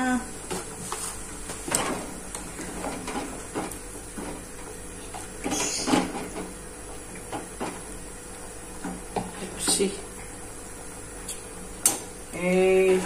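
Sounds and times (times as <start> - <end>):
boiling pot hissing: 0.0 - 13.0.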